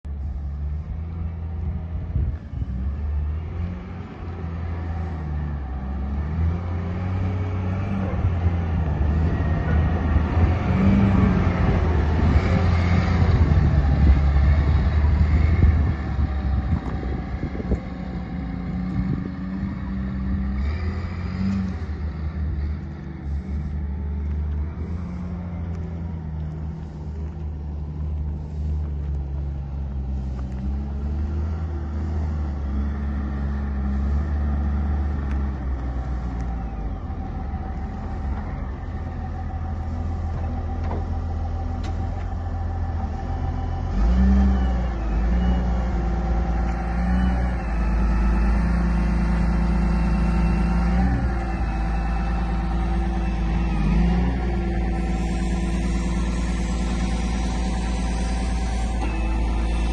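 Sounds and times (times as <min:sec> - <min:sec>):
diesel loader engine running: 0:00.0 - 0:59.9.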